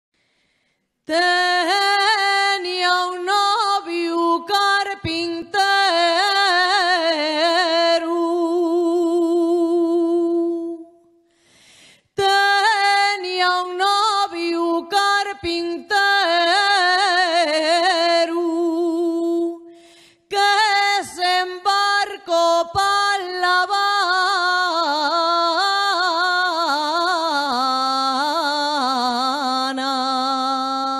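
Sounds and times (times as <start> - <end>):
woman singing unaccompanied: 1.1 - 11.0, 12.2 - 19.7, 20.3 - 30.9.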